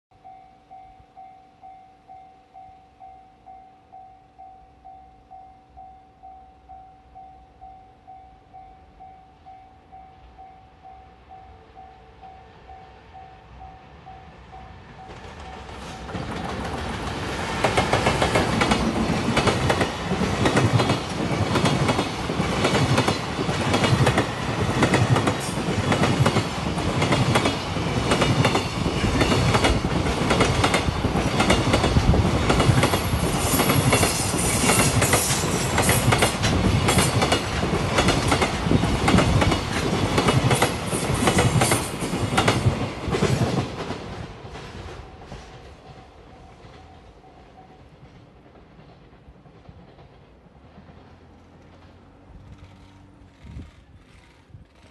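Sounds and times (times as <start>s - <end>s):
freight train passing: 0.2s - 54.9s.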